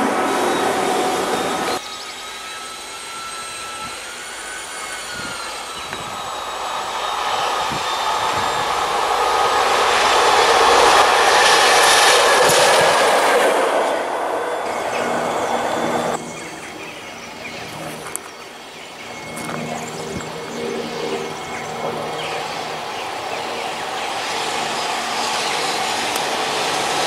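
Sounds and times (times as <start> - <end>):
freight train passing: 0.0 - 27.0.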